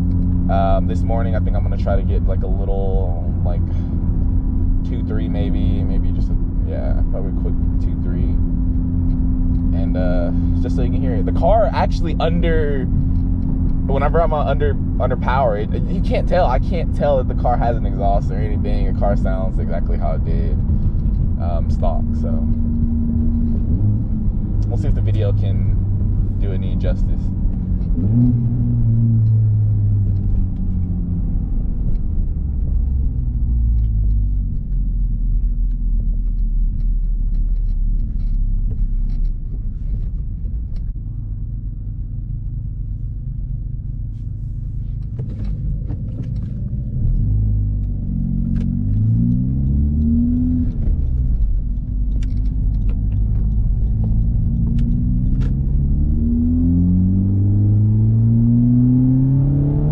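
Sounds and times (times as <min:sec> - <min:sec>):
car engine driving: 0:00.0 - 0:59.9.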